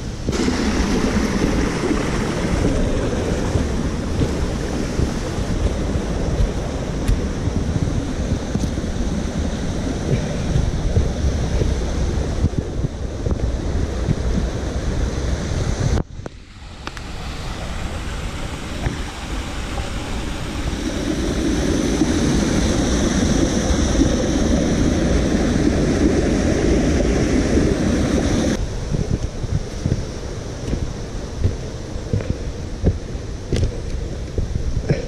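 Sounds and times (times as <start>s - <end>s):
stream splashing over rocks: 0.0s - 35.0s
wind rumbling on microphone: 0.0s - 35.0s.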